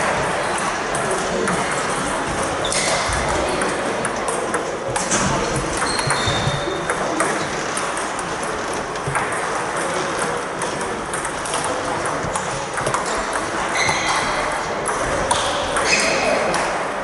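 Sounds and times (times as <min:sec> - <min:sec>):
table tennis balls clicking: 0:00.0 - 0:16.8
background hubbub: 0:00.0 - 0:17.0.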